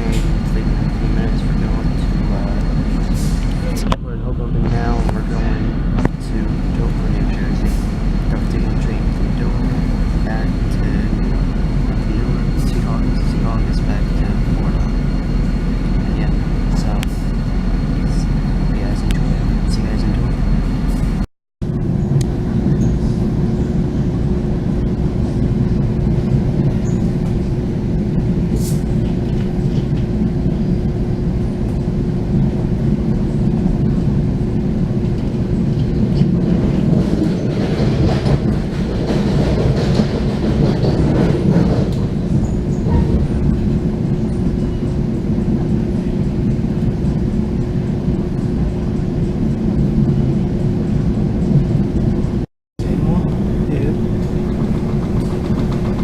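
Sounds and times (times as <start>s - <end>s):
constant hum: 0.0s - 56.0s
train rumbling: 0.0s - 56.0s.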